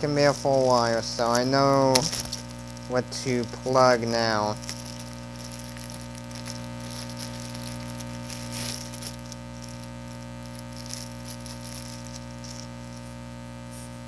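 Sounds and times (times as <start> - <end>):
rustling and rattling of cables: 0.0 - 13.9
electrical mains hum: 0.0 - 14.0.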